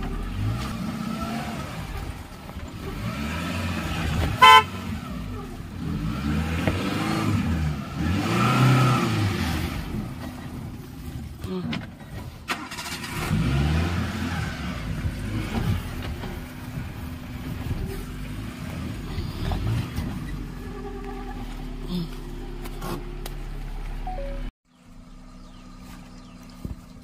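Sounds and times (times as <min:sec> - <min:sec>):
car engine revving: 0:00.0 - 0:11.4, 0:12.4 - 0:24.5.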